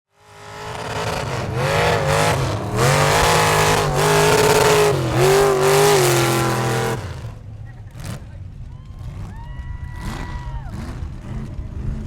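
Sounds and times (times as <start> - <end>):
truck engine revving hard: 0.1 - 12.0.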